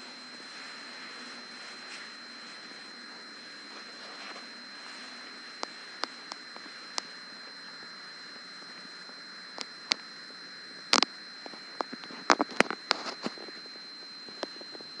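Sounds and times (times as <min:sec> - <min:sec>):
faint high whine and hiss: 0:00.0 - 0:15.0.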